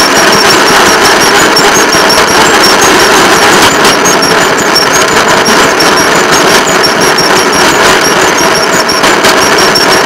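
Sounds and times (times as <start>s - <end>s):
clicks and high squeaks: 0.0s - 10.0s
rail motorcar engine running: 0.0s - 10.0s.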